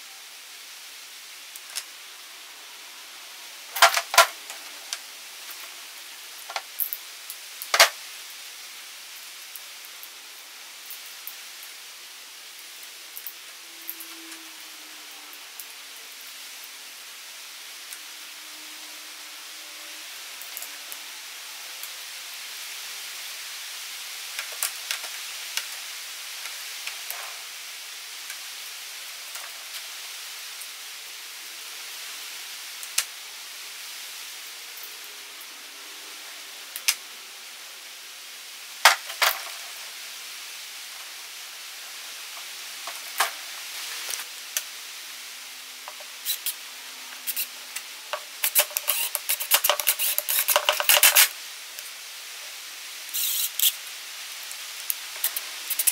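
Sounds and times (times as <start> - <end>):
steady hiss: 0.0 - 55.9.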